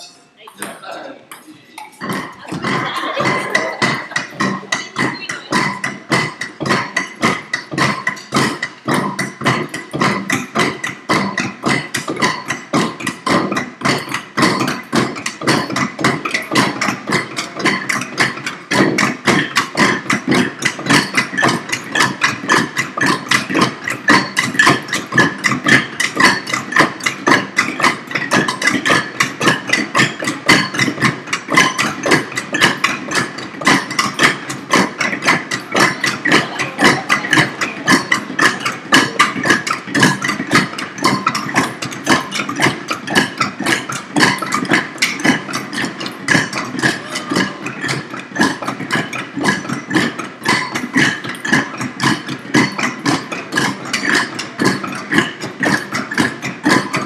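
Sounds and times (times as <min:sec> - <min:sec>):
bamboo tubes knocking on wood: 0:02.0 - 0:57.0.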